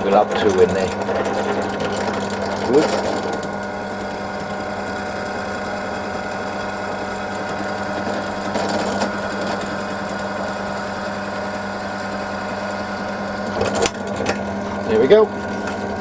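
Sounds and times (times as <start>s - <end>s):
electric drill motor humming: 0.0s - 16.0s.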